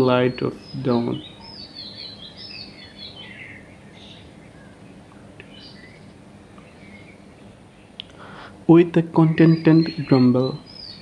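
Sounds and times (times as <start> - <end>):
bird chirping: 0.0 - 11.0
low background hiss: 0.0 - 11.0.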